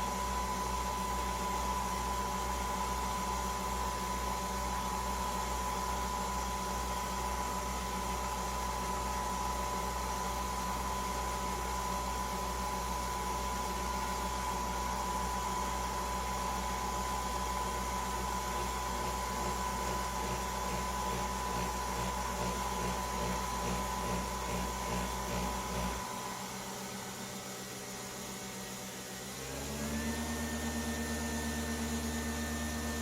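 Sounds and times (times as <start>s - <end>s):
mechanical hum: 0.0s - 33.0s.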